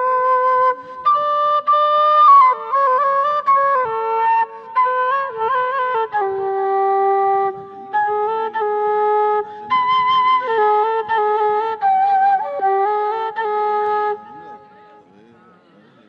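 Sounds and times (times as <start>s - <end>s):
wooden flute melody: 0.0s - 15.0s.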